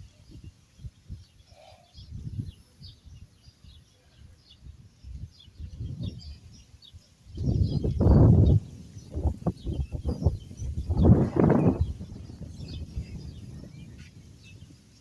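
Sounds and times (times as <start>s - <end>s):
low rumbling wind gusts: 0.0s - 3.8s, 4.4s - 15.0s
small birds chirping: 0.0s - 15.0s.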